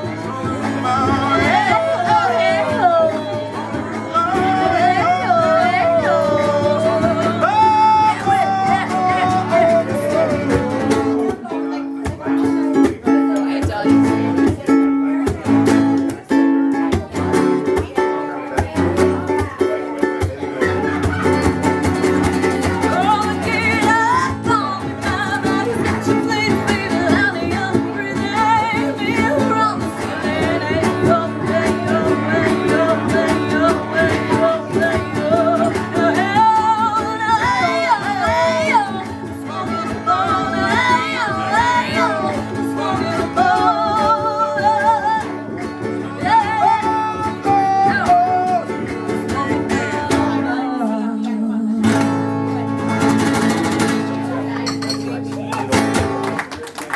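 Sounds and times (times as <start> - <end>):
person singing: 0.0 - 15.5, 16.1 - 52.4
acoustic guitar strumming: 0.0 - 56.3
ukulele strumming: 0.0 - 56.3.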